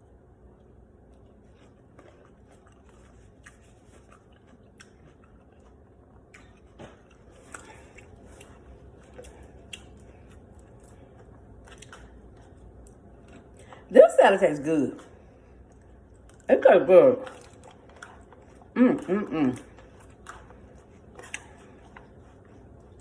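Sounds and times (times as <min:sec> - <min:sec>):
chewing and crunching salad: 0:00.0 - 0:23.0.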